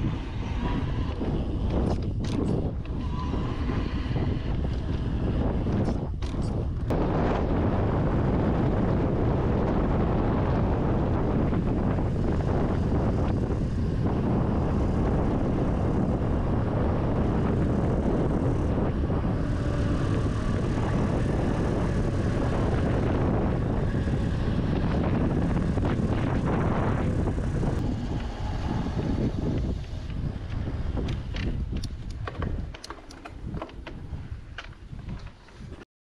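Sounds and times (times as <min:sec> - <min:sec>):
bike tyre rumble on trail: 0:00.0 - 0:35.8
wind rush on microphone: 0:00.0 - 0:35.8.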